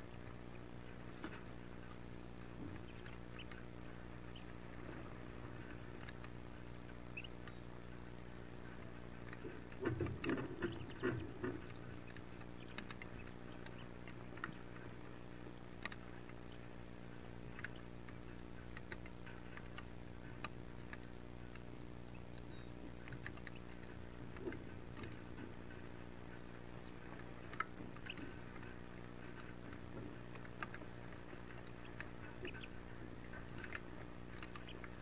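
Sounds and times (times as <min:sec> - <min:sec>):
ducklings scratching and clicking: 0:00.0 - 0:35.0
steady low hum: 0:00.0 - 0:35.0.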